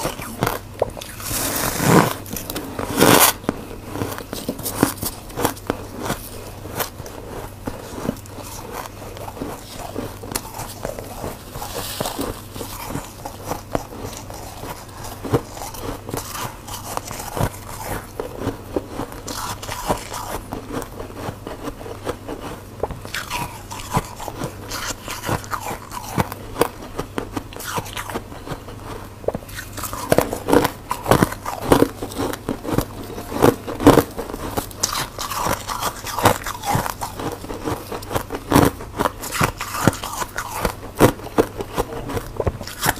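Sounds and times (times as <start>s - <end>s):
biting and chewing frost: 0.0s - 42.9s.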